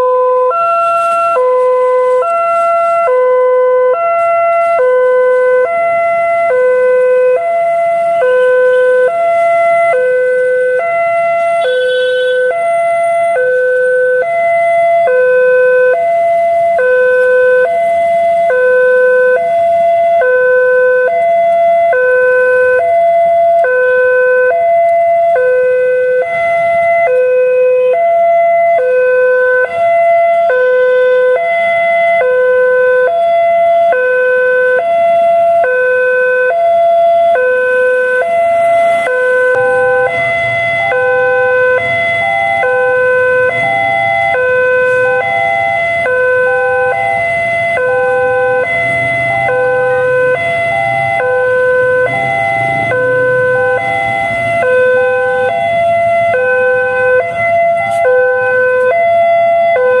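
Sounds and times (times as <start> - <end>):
level crossing two-tone siren: 0.0 - 60.0.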